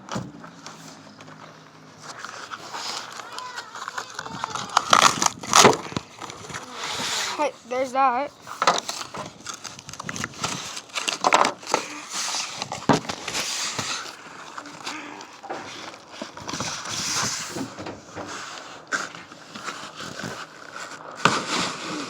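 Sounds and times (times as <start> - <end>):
packaging rustling and tearing: 2.0 - 22.0.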